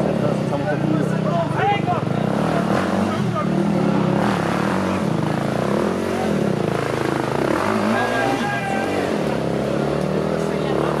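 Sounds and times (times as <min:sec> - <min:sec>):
motorcycle engine revving: 0:00.0 - 0:11.0
spectators' voices: 0:00.0 - 0:11.0.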